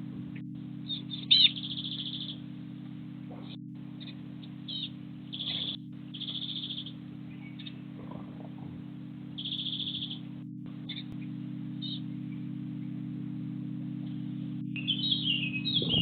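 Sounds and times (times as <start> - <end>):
small birds chirping and trilling: 0.0 - 13.2, 14.0 - 16.0
steady low hum: 0.0 - 16.0.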